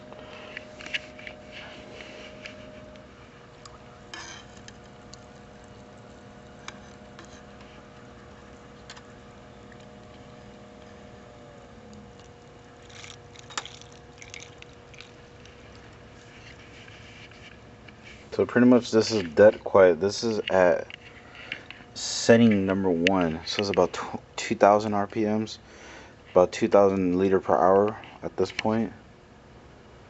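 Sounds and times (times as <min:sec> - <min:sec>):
water pump humming: 0:00.0 - 0:29.4.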